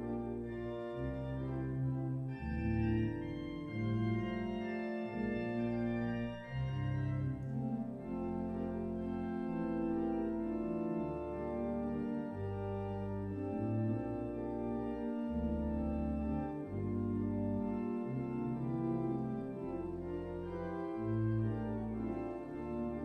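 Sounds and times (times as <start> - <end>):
church organ sustained chords: 0.0 - 23.0.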